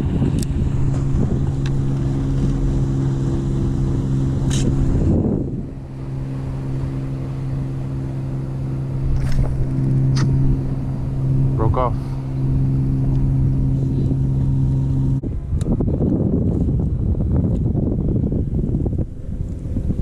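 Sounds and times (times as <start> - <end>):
boat motor humming: 0.0 - 20.0
wind on microphone: 0.0 - 20.0.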